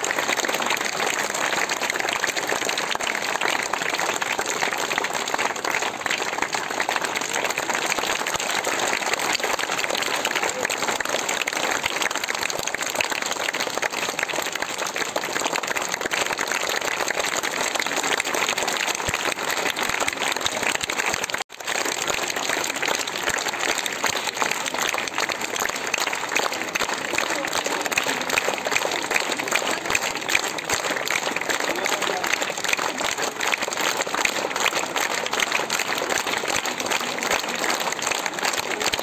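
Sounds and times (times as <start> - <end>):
crowd of children clapping: 0.0 - 39.0.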